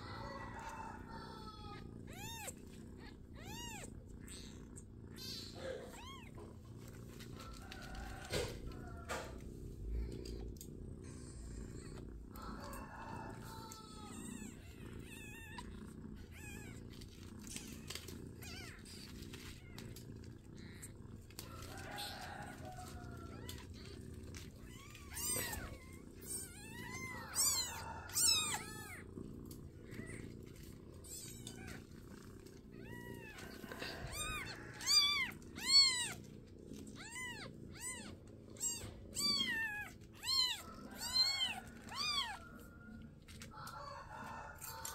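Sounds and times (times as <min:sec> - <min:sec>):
kittens mewing: 0:00.0 - 0:44.9.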